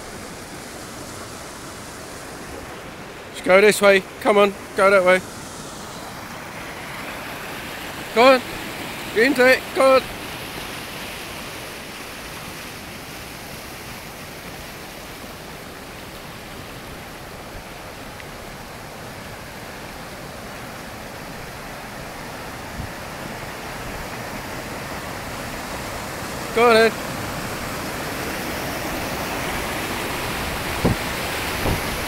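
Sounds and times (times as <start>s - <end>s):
river rushing: 0.0s - 32.0s.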